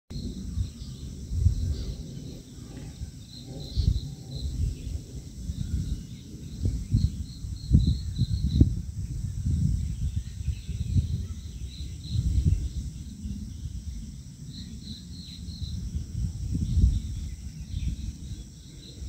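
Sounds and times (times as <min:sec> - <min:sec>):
insects chirping: 0:00.1 - 0:19.0
wind rumbling on microphone: 0:00.1 - 0:19.0.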